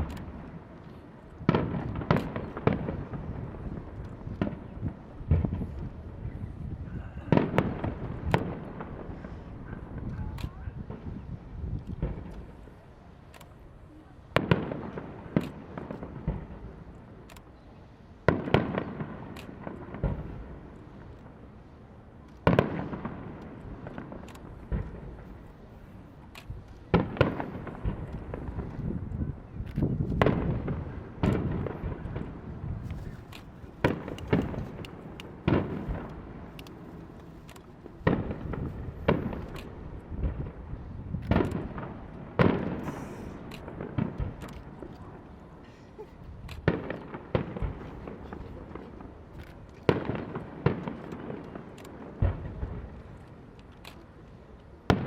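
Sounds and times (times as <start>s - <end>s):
fireworks bursting with bangs: 0.0s - 55.0s
fireworks crackling: 0.0s - 55.0s.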